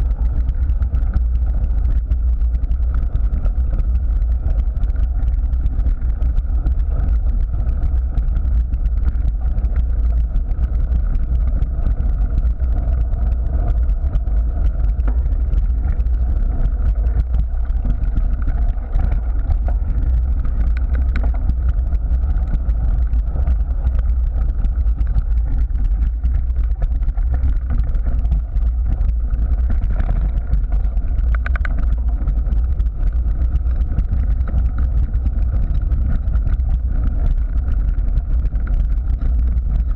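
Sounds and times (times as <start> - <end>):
bike tyres rolling on gravel: 0.0 - 39.9
wind buffeting microphone: 0.0 - 39.9.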